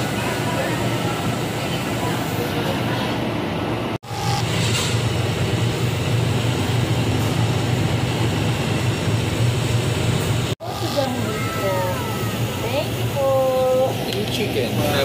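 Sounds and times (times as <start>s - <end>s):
ventilation exhaust hum: 0.0s - 15.0s.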